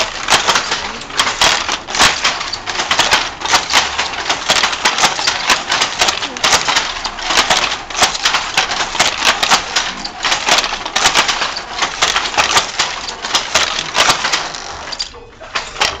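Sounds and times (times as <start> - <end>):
wooden handloom clacking: 0.0 - 16.0.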